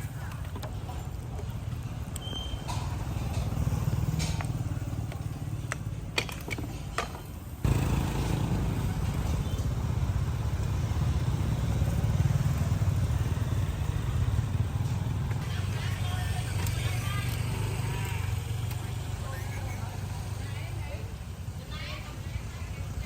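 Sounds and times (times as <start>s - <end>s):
motorbike engines rumbling: 0.0s - 23.0s.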